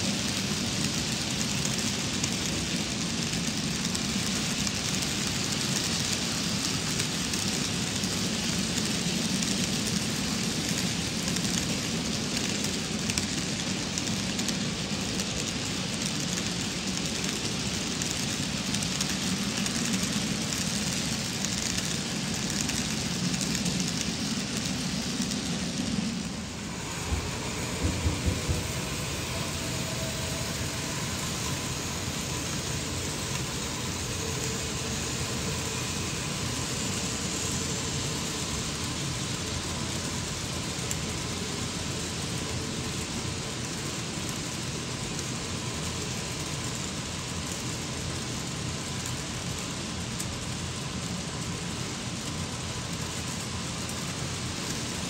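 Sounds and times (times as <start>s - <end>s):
model train wheels and motors: 0.0s - 55.0s.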